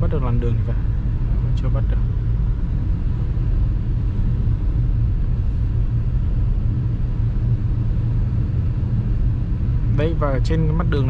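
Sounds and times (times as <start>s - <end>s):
road and tyre rumble in car cabin: 0.0s - 11.0s.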